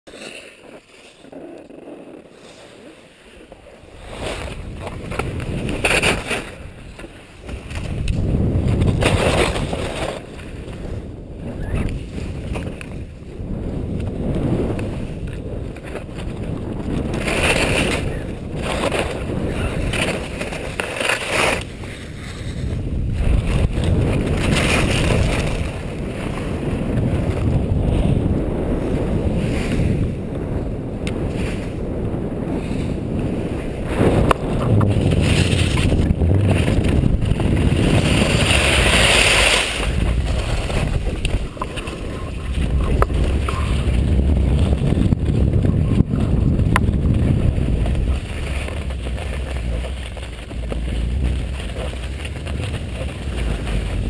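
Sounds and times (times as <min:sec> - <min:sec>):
skis scraping on snow: 0:00.1 - 0:54.0
wind rushing over microphone: 0:03.3 - 0:54.0.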